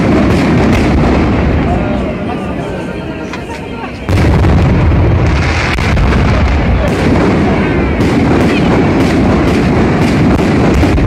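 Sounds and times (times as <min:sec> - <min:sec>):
sharp firework bangs: 0:00.0 - 0:02.0, 0:04.1 - 0:11.0
firework shells booming: 0:00.0 - 0:02.2, 0:04.0 - 0:11.0.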